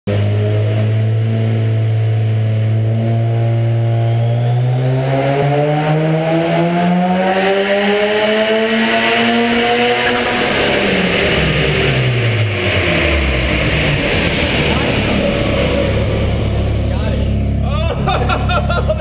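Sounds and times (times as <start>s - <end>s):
rotary engine revving: 0.1s - 19.0s.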